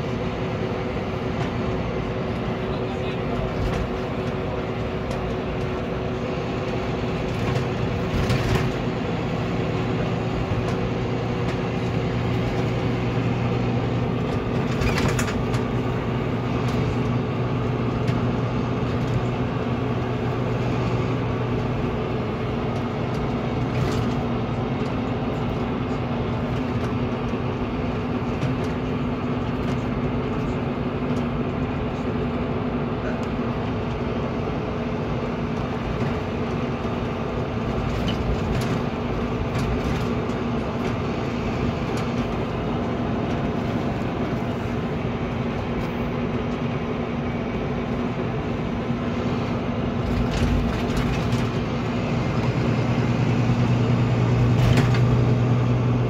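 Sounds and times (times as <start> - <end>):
diesel engine droning: 0.0 - 56.0
tyre and road noise: 0.0 - 56.0.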